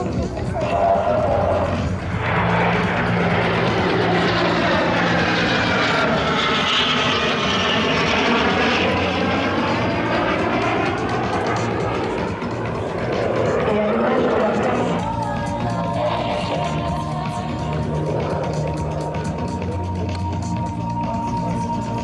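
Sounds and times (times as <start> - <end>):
jets flying past: 0.0 - 19.7.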